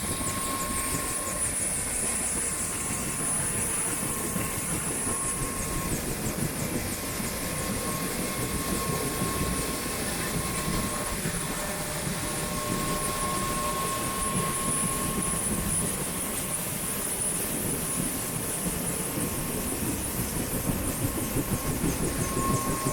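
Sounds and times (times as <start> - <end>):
helicopter turbine engine idling: 0.0 - 22.9.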